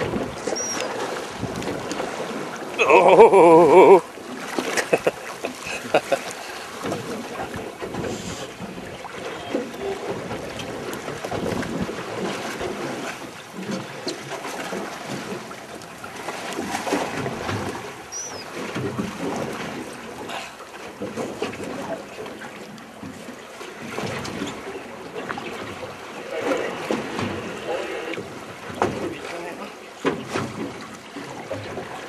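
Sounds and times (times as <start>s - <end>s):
water slapping against boat hull: 0.0s - 32.0s.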